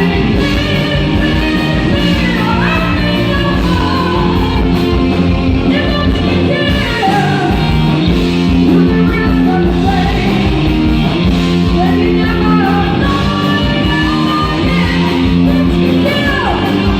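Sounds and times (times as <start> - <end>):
person singing: 0.0 - 16.9
rock band playing: 0.0 - 16.9.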